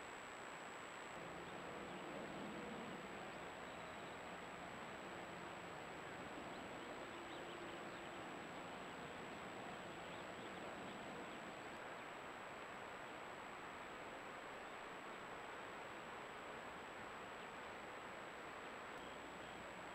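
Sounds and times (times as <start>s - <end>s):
microphone hiss: 0.0s - 19.9s.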